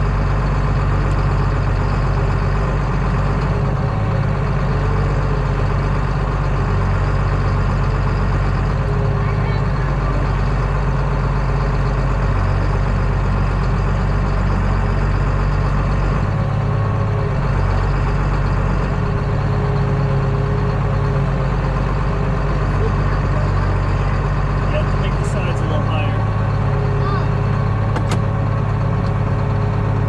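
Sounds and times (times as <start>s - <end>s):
tractor diesel engine droning: 0.0s - 30.0s.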